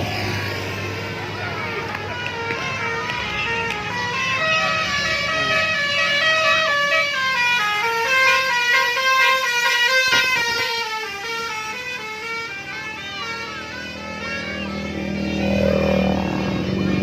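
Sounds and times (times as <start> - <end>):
bus horn playing a melody: 1.0 - 17.0.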